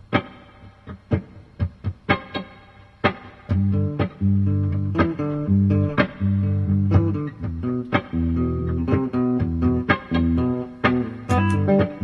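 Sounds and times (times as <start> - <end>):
slow electric guitar chords: 0.0 - 12.0.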